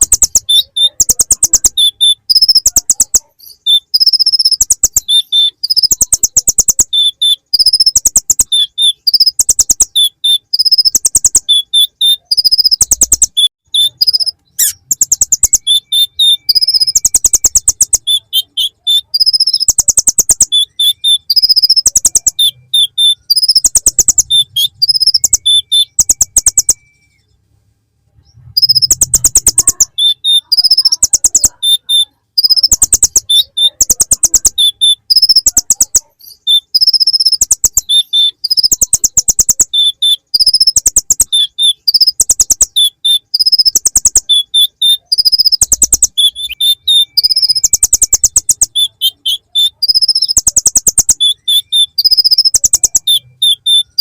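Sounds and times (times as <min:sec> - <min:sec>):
bird trilling and chirping: 0:00.0 - 0:27.4, 0:28.2 - 0:54.0.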